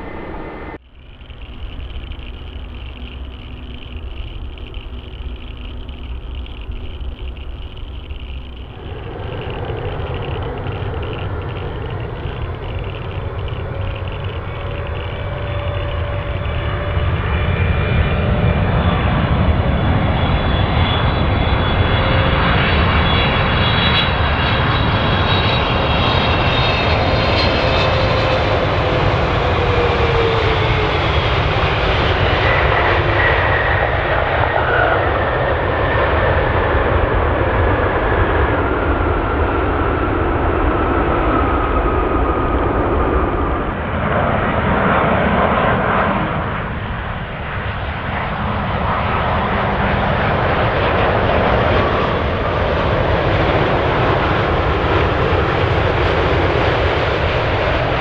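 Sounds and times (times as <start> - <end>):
jet airliner engines whining: 0.0 - 58.0.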